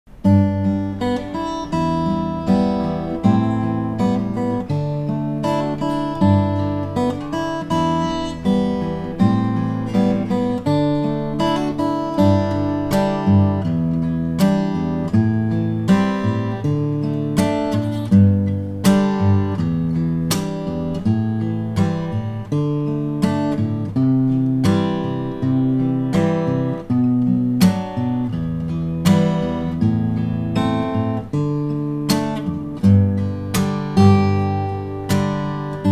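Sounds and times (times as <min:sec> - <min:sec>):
fingerstyle acoustic guitar: 0:00.1 - 0:35.9.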